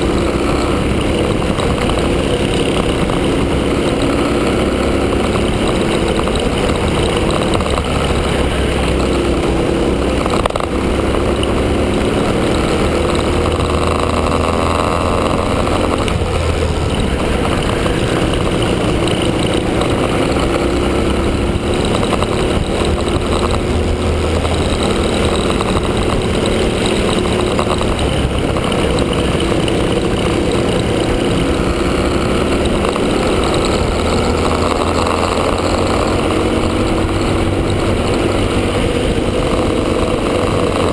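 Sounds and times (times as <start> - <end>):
kart engine revving: 0.0 - 40.9
steady rushing noise: 0.0 - 40.9.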